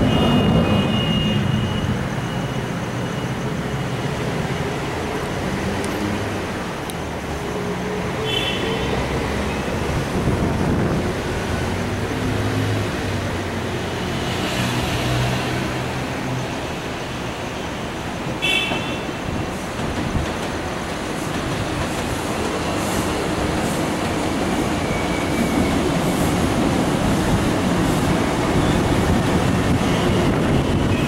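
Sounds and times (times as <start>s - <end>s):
road traffic hum: 0.0s - 31.0s.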